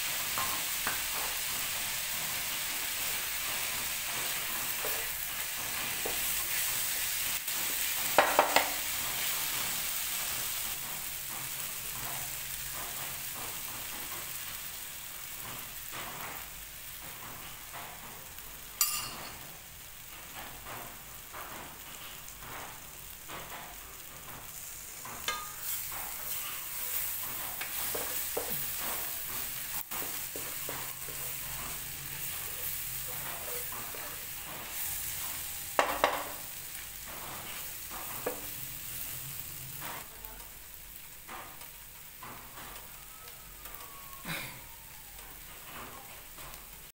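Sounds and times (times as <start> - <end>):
food sizzling in a frying pan: 0.0 - 46.9.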